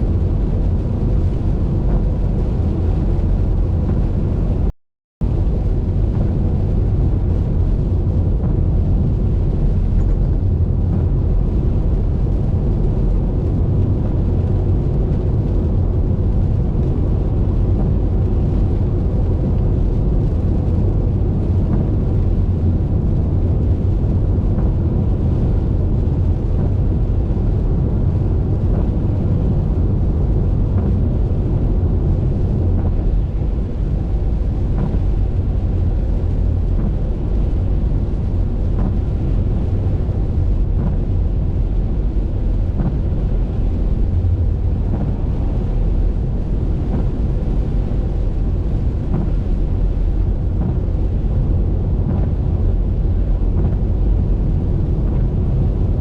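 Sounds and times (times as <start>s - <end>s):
car driving at highway speed: 0.0s - 56.0s.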